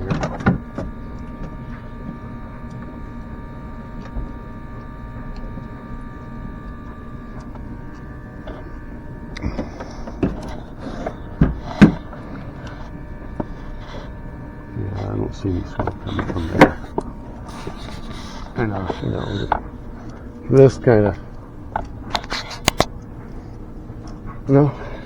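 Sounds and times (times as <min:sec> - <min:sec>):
smoke machine humming: 0:00.0 - 0:25.0.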